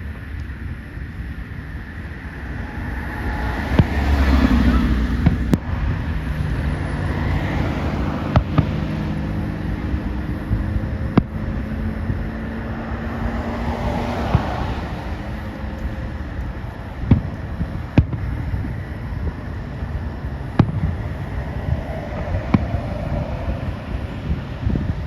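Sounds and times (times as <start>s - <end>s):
low rumble: 1.1s - 25.0s.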